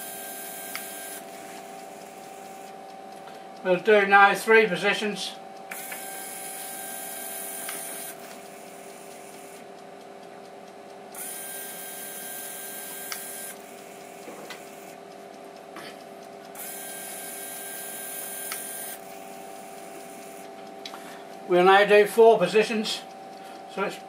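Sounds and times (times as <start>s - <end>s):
lathe turret motor running: 0.0s - 9.8s, 11.1s - 15.2s, 16.5s - 24.0s
steady machine hum: 0.0s - 24.0s.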